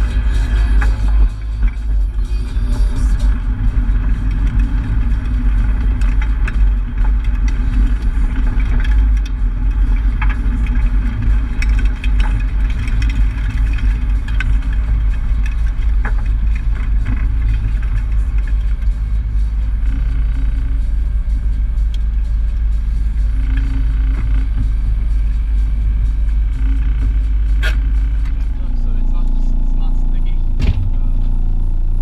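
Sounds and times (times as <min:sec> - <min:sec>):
car engine low rumble: 0:00.0 - 0:32.0.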